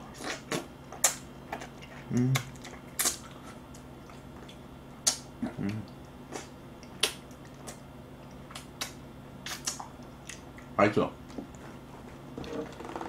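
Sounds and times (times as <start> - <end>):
low hum from person: 0.0 - 13.0
person chewing with mouth clicks: 0.2 - 10.7.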